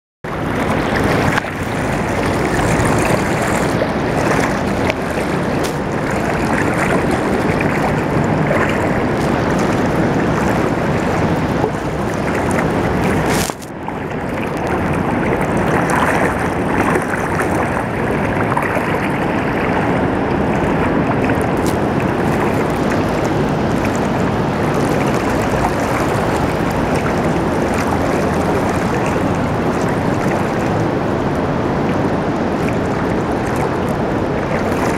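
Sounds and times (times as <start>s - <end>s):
water rushing past boat: 0.2s - 34.9s.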